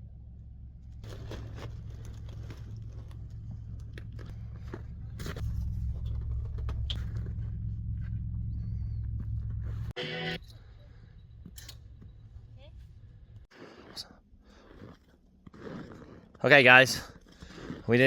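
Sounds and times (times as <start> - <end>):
vehicle rumbling: 0.0 - 15.4
scraping and crunching noises: 0.9 - 10.6, 11.4 - 18.0.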